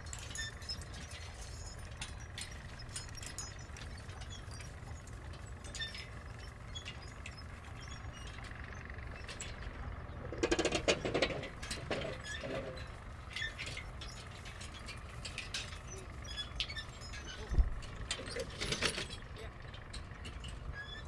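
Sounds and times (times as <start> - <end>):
metallic clinks and knocks: 0.0 - 21.0.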